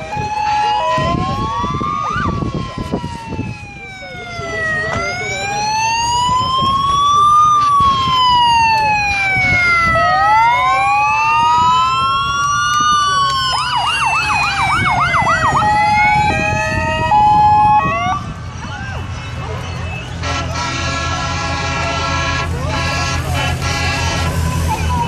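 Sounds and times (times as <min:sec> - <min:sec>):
low rumble of vehicle engines: 0:00.0 - 0:25.0
vehicle siren wailing: 0:00.0 - 0:25.0.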